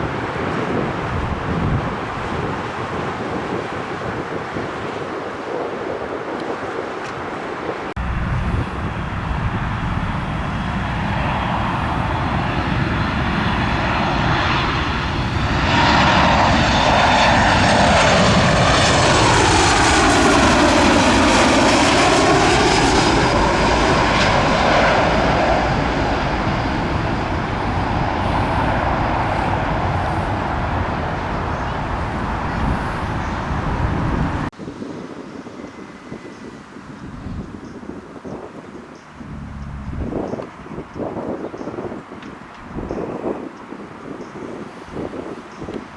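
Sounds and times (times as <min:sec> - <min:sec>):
jet airliner passing overhead: 0:00.0 - 0:36.9, 0:37.8 - 0:45.9
jet engine whine: 0:00.0 - 0:45.9.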